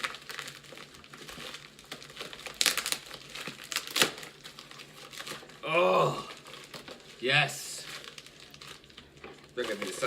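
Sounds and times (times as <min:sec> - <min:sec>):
packaging crinkling: 0:00.0 - 0:05.6, 0:06.2 - 0:10.0
packaging ripping: 0:00.0 - 0:05.7, 0:06.3 - 0:10.0.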